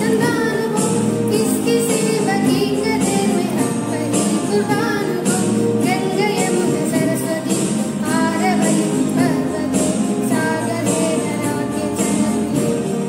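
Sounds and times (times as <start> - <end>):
instrumental backing music: 0.0 - 13.0
woman singing: 0.0 - 13.0.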